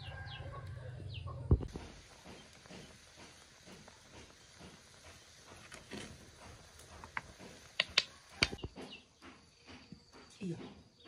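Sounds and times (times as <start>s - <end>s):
wood fire clicks and knocks: 1.5s - 11.0s.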